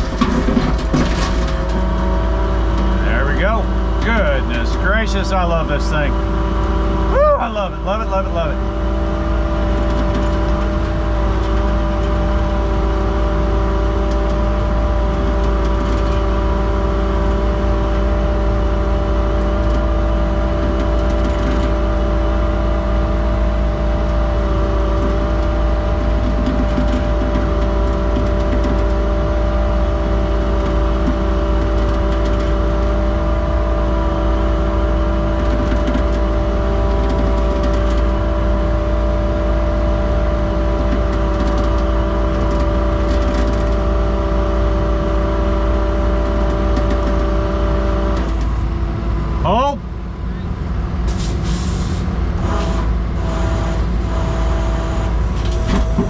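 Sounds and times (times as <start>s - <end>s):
skid steer engine running: 0.0s - 56.0s.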